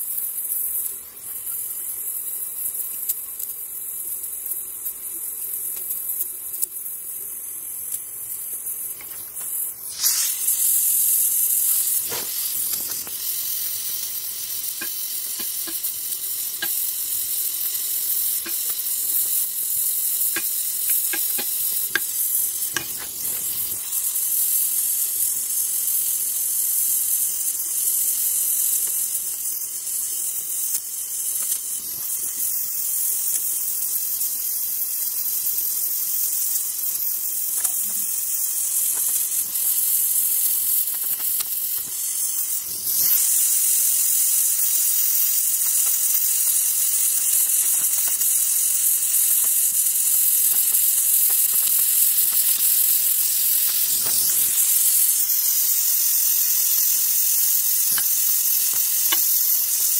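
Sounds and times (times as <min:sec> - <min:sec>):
welding torch flame hissing: 0:00.0 - 0:59.9.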